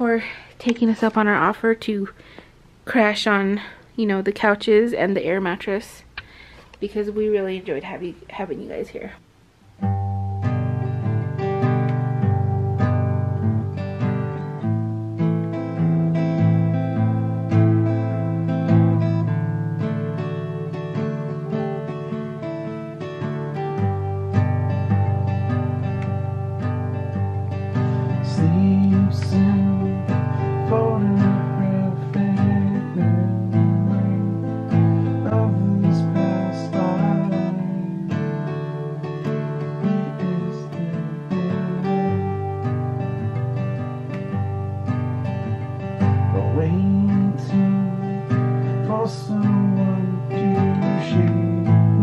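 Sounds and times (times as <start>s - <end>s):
acoustic guitar strumming music: 9.5s - 52.0s.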